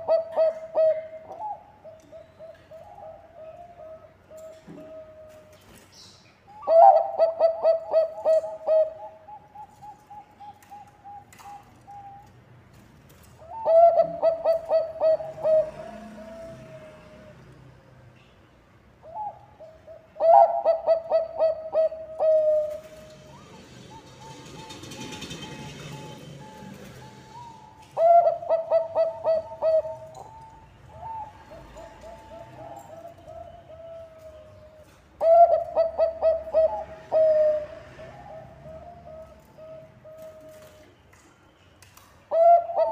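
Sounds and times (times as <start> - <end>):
dove song of staccato coos: 0.0 - 5.8, 6.6 - 12.4, 13.4 - 17.4, 19.1 - 41.2, 42.3 - 42.9.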